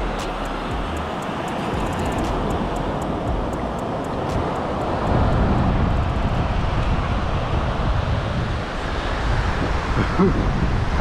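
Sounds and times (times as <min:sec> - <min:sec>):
wind buffeting microphone: 0:00.0 - 0:11.0
breaking surf: 0:00.1 - 0:11.0.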